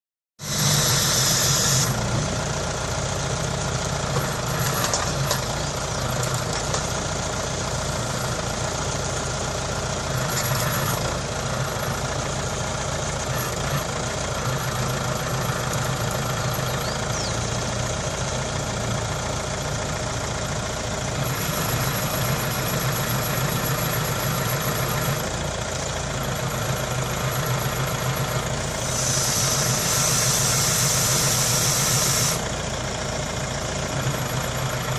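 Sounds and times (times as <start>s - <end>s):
loader engine humming: 0.4s - 34.9s.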